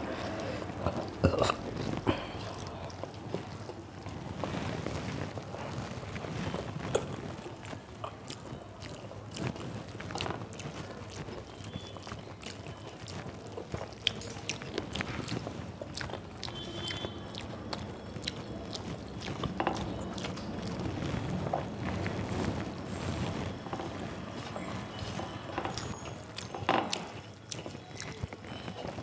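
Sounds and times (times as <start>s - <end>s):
mouth chewing: 0.0s - 29.0s.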